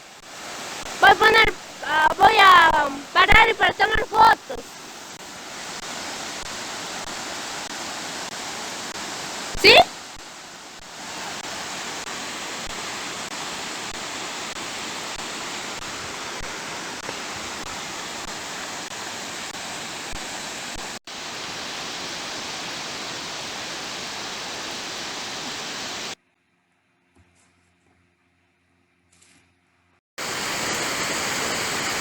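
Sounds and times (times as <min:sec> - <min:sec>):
waterfall rushing: 0:00.0 - 0:26.2, 0:30.2 - 0:32.0.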